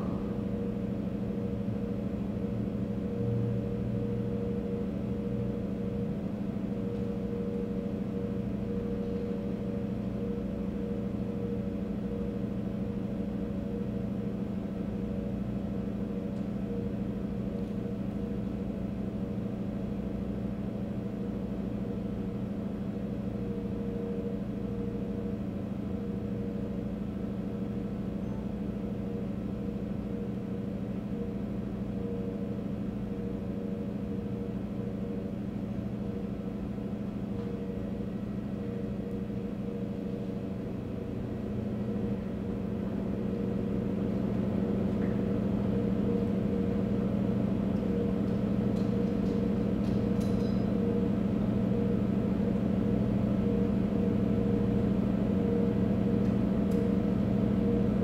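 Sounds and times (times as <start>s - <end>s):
low droning hum: 0.0s - 58.0s.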